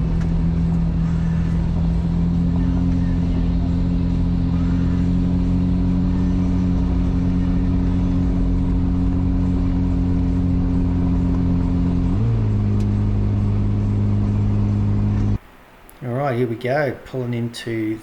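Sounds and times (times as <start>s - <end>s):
vehicle engine droning: 0.0s - 15.4s.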